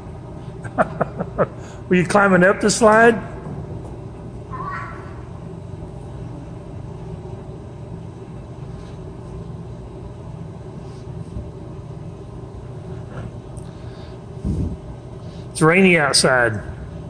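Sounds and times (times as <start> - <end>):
low rumble and hum: 0.0 - 17.0.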